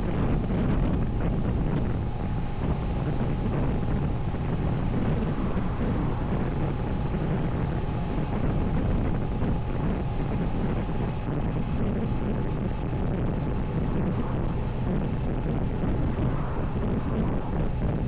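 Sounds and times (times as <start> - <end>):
motorcycle engine hum: 0.0 - 18.0
wind on microphone: 0.0 - 18.0.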